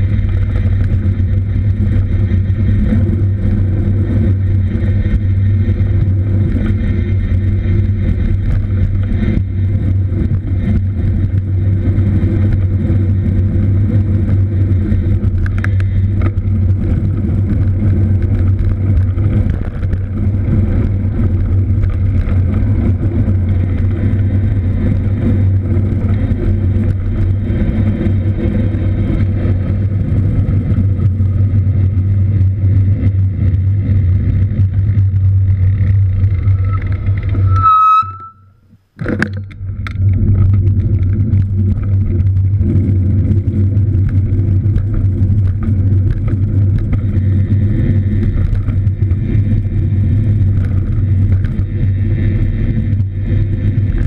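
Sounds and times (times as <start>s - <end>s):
wind and road noise rumble: 0.0s - 54.0s.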